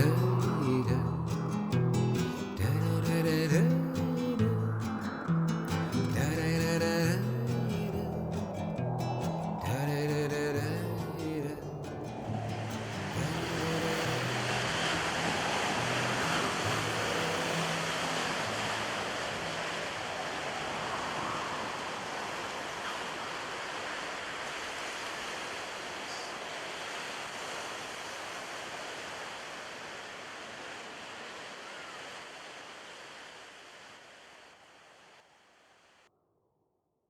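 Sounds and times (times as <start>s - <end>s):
steady rushing noise: 0.0s - 34.8s.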